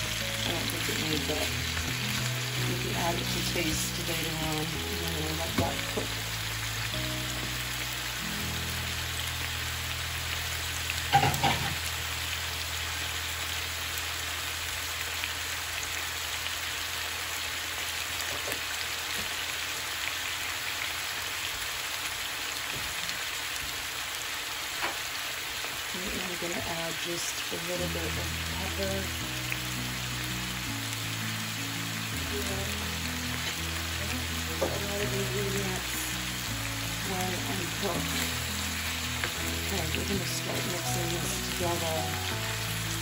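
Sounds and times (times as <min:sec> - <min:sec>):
food sizzling in a frying pan: 0:00.0 - 0:43.0.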